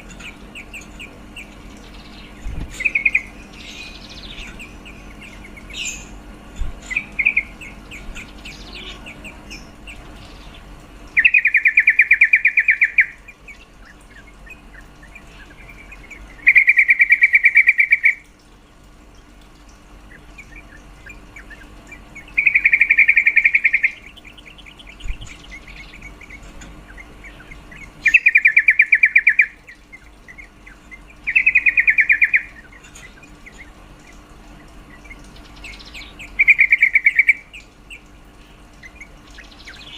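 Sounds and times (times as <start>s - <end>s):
soft bird chirps: 0.0s - 18.4s, 19.1s - 39.9s
bird rattling trills: 0.0s - 39.9s.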